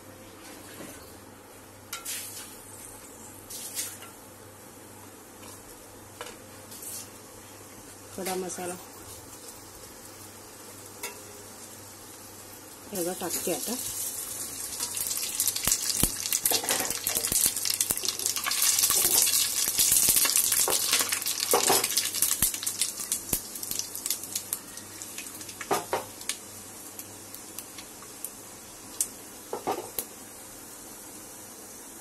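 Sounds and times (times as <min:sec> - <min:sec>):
spices sizzling in hot oil: 0:01.9 - 0:04.2, 0:06.2 - 0:32.0.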